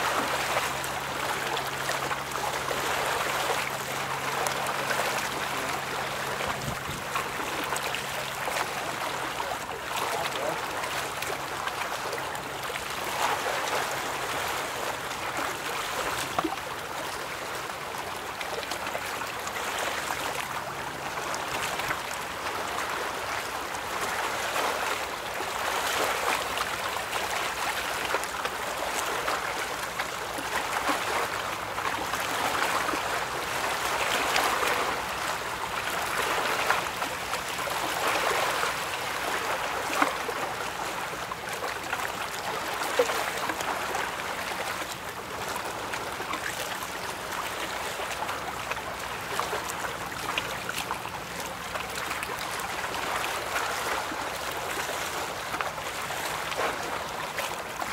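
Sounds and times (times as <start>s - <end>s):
river water rushing and splashing: 0.0s - 57.9s.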